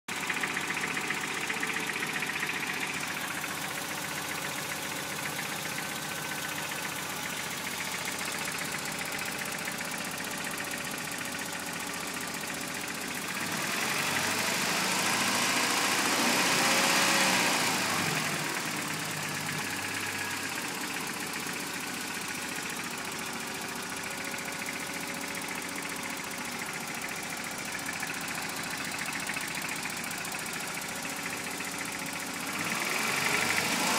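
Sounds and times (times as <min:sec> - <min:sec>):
car engine idling with knocking: 0:00.1 - 0:33.9
engine revving: 0:00.5 - 0:22.3, 0:23.8 - 0:33.9.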